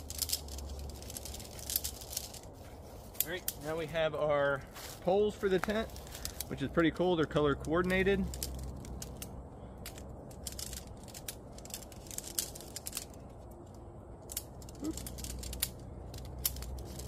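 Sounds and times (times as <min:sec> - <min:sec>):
tent poles clicking and rattling: 0:00.0 - 0:17.0.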